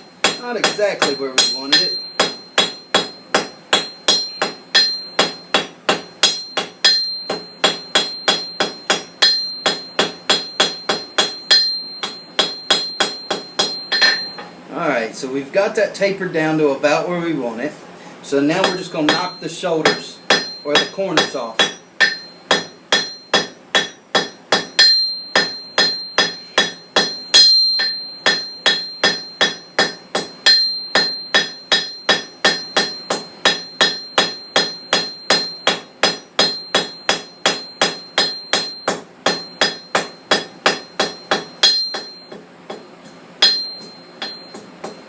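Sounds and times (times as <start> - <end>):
hammer striking steel on anvil: 0.0 - 14.6, 18.5 - 45.0
high anvil ring: 0.0 - 14.6, 18.6 - 45.0.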